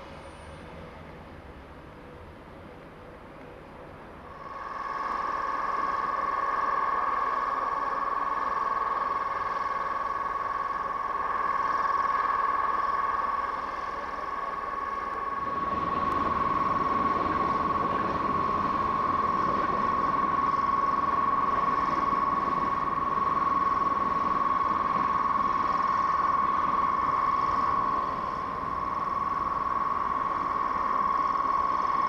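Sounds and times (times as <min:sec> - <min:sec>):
high-pitched locomotive whine: 0:00.0 - 0:32.0
locomotive engine noise: 0:00.0 - 0:32.0.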